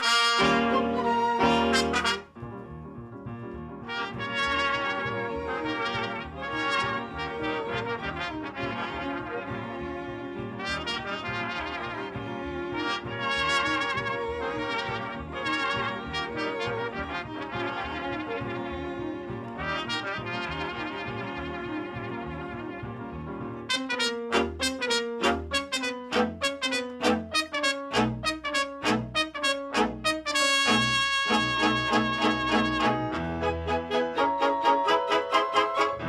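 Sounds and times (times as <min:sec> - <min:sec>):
brass band music: 0:00.0 - 0:02.5, 0:03.8 - 0:36.0.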